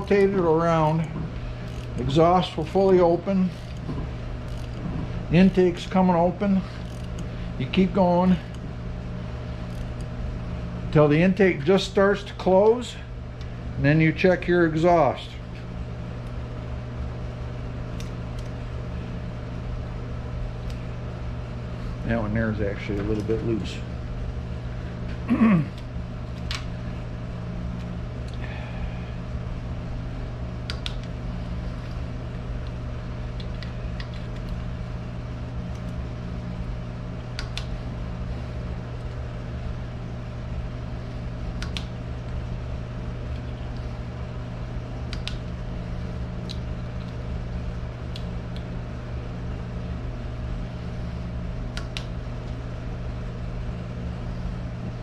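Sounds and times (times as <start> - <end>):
low workshop hum: 0.0 - 55.0.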